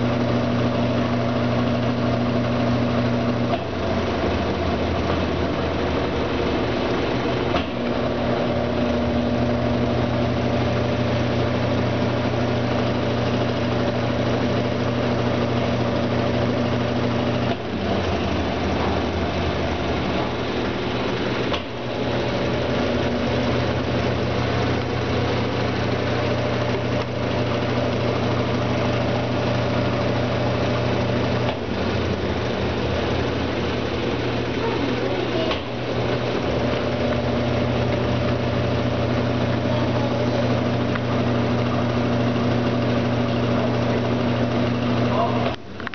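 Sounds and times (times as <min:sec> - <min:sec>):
washing machine motor hum: 0:00.0 - 0:45.9.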